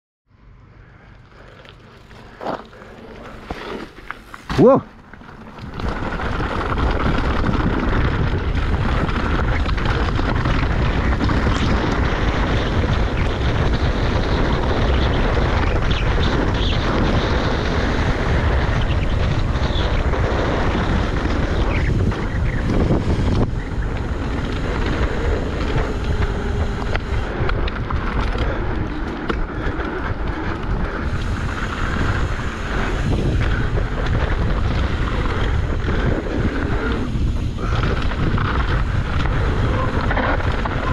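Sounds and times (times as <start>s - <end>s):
wind on microphone: 4.6s - 40.9s.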